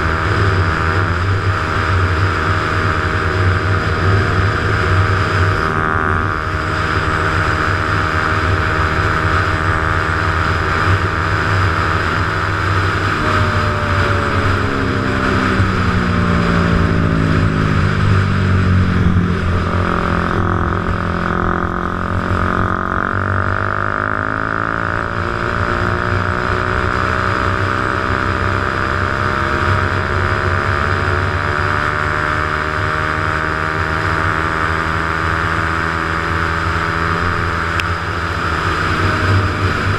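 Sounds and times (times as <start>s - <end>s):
motorcycle engine hum: 0.0s - 39.9s.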